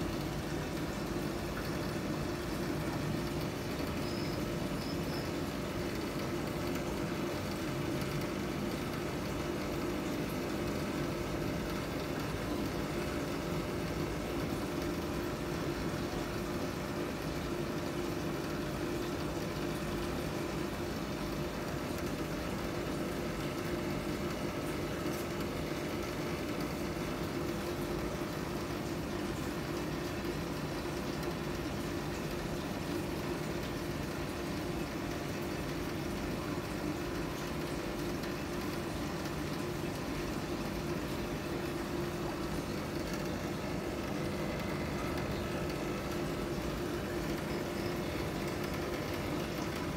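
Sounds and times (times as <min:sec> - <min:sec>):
filter pump humming: 0:00.0 - 0:49.9.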